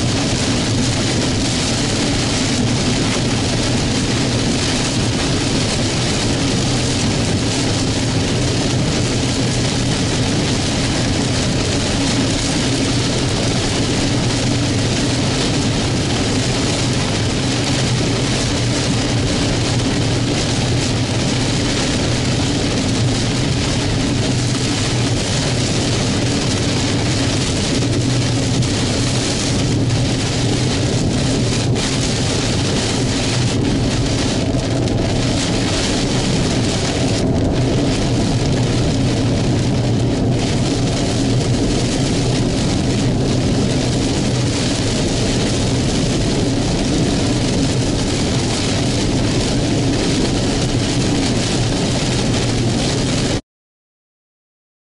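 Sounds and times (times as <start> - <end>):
heavy rain on a car: 0.0 - 53.4
wind: 0.0 - 53.4.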